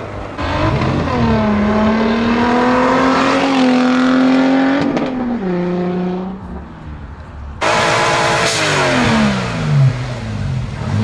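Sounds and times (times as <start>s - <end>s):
car engine accelerating: 0.4s - 11.0s.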